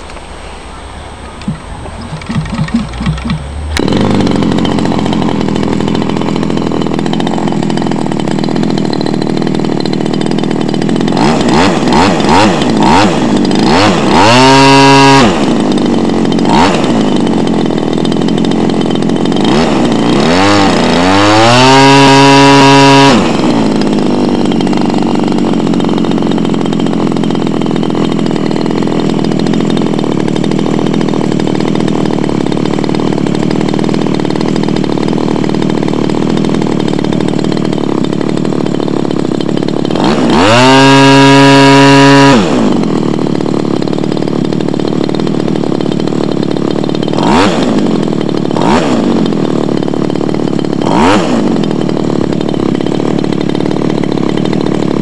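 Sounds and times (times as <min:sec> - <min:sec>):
model aircraft engine idling and revving: 0:00.0 - 0:55.0.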